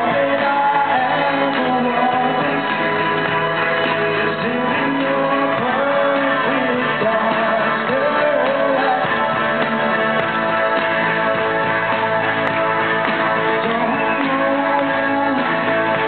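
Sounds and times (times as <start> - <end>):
backing music: 0.0 - 16.0
person singing: 0.0 - 16.0.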